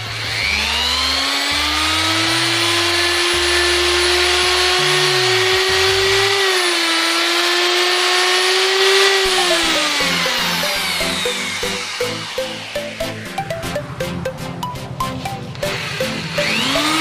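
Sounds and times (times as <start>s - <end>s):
electric drill motor whine: 0.0s - 14.0s, 15.4s - 17.0s.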